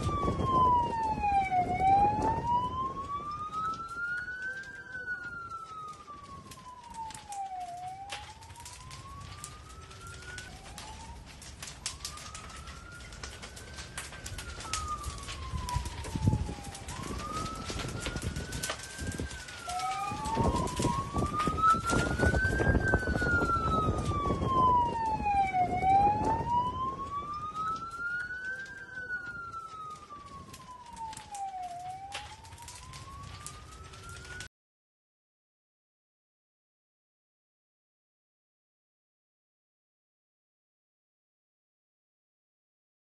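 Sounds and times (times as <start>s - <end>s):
fire crackling and popping: 0.0s - 34.5s
siren wailing: 0.0s - 34.5s.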